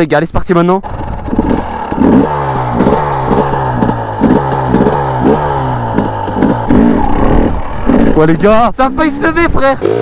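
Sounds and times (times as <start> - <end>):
dirt bike engine revving: 0.8 - 10.0.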